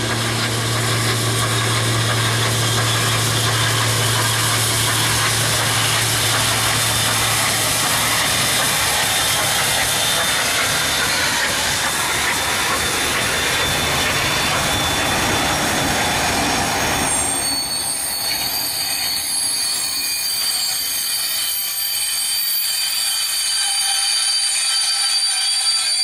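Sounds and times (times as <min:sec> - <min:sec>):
train rushing past: 0:00.0 - 0:23.8
train wheels squealing: 0:00.0 - 0:26.0.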